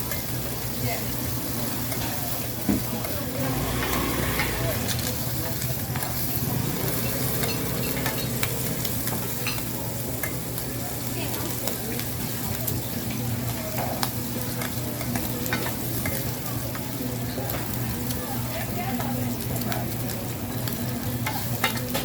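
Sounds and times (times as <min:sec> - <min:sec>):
rice sizzling in a wok: 0:00.0 - 0:22.0.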